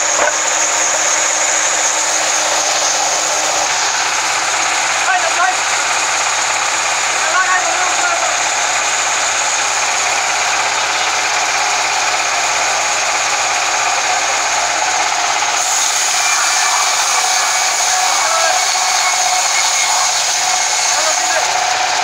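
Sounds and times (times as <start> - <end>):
band sawmill running: 0.0 - 22.0.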